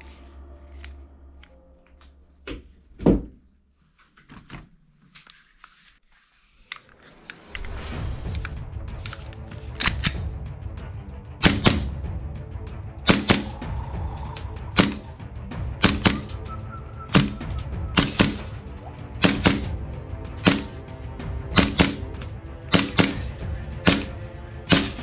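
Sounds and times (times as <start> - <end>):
background music: 0.0 - 2.9, 6.7 - 25.0.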